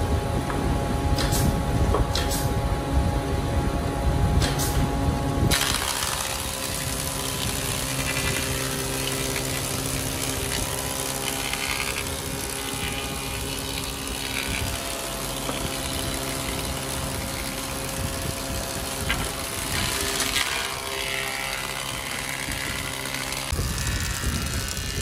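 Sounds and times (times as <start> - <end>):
electric motor humming: 3.4 - 25.0
planer cutting wood: 4.4 - 25.0.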